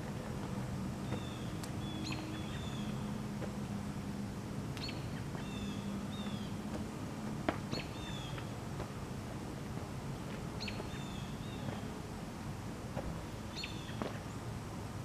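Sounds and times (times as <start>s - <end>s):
songbirds chirping: 0.0s - 14.6s
steady low hum: 0.0s - 15.0s.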